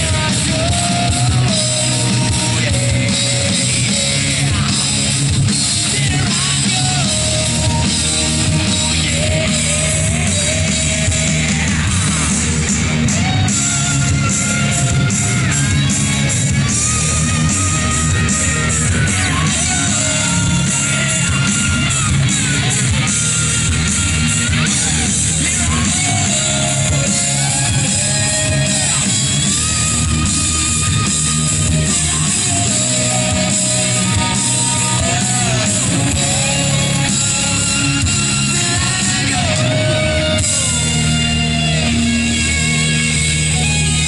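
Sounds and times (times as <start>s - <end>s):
rock music with singing: 0.0s - 44.0s.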